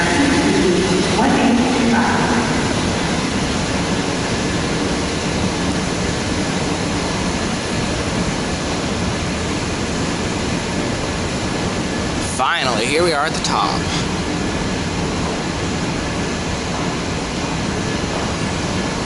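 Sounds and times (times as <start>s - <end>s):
escalator rumble and hiss: 0.0s - 19.0s.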